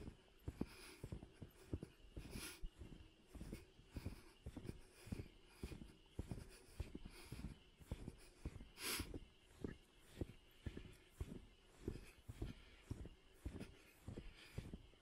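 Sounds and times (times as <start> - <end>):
footsteps crunching in snow: 0.0 - 14.8.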